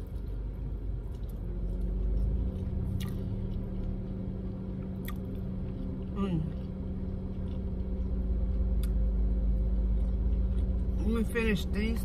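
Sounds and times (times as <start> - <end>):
chewing food: 0.0 - 12.0
low vehicle hum: 0.0 - 12.0.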